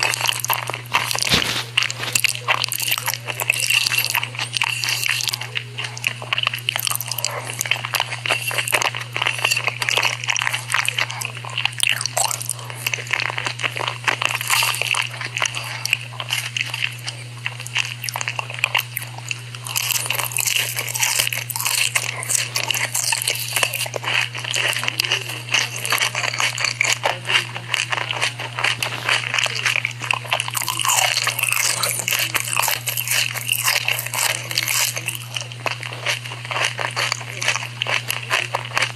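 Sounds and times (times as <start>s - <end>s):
chewing: 0.0s - 38.9s
crunching and biting crispy food: 0.0s - 38.9s
steady low hum: 0.0s - 38.9s.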